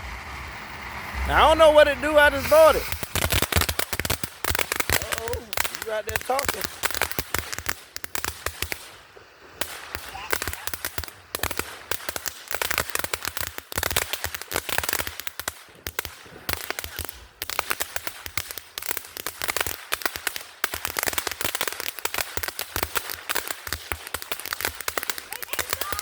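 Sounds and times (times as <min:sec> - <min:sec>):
firework fountain hissing and crackling: 0:00.0 - 0:26.0.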